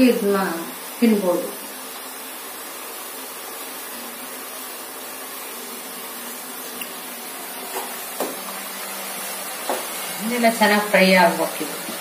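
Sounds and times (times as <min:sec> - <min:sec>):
beans sizzling in hot oil: 0:00.0 - 0:12.0.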